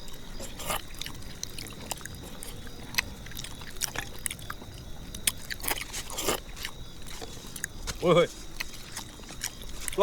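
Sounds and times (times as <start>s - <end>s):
low steady background noise: 0.0s - 10.0s
man chewing noisily: 0.0s - 10.0s.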